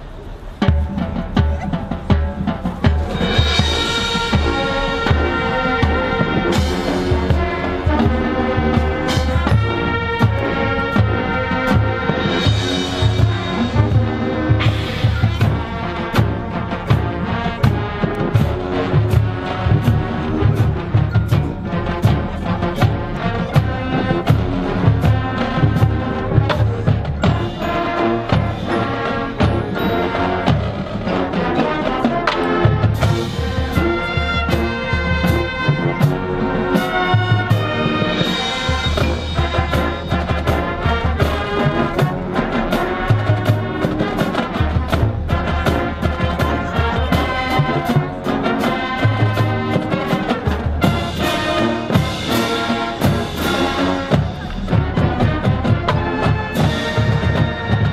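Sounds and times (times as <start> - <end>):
drums and percussion: 0.0 - 57.9
marching band brass: 0.0 - 57.9.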